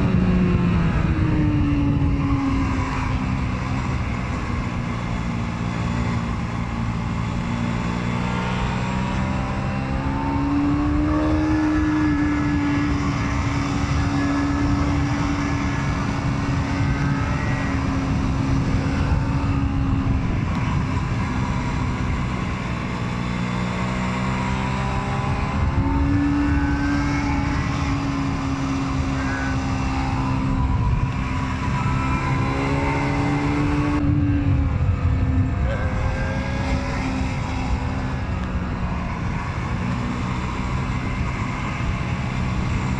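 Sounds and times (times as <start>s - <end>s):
wind rush: 0.0s - 7.4s, 8.7s - 42.9s.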